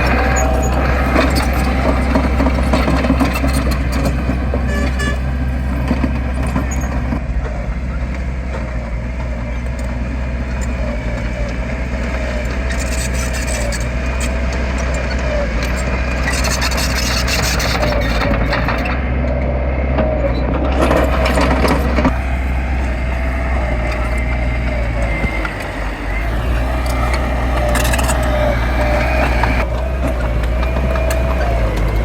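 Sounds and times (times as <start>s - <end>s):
heavy machinery diesel engine: 0.0s - 32.0s.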